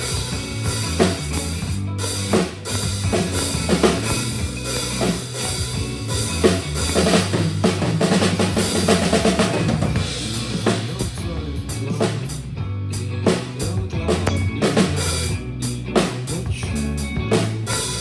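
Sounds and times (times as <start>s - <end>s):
drum kit playing: 0.0s - 18.0s
rock music with guitar and bass: 0.0s - 18.0s.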